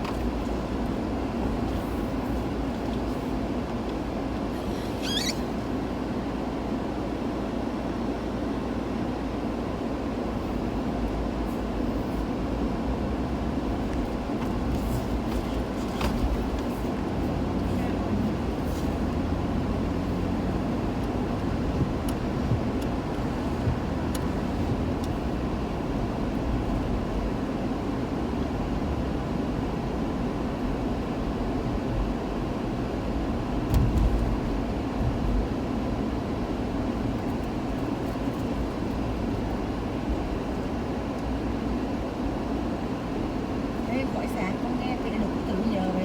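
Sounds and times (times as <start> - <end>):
car cabin road noise: 0.0 - 46.0.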